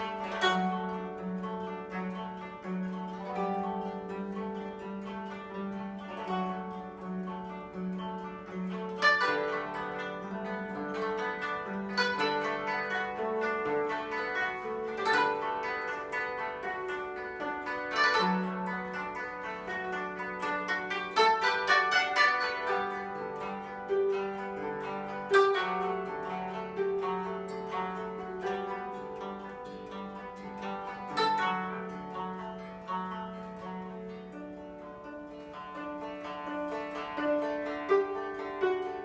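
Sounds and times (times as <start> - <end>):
koto ensemble playing: 0.0 - 39.0.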